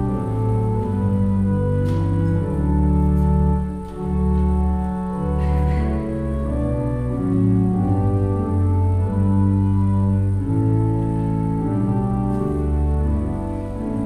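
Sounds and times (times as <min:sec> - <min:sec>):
church organ chords: 0:00.0 - 0:14.0.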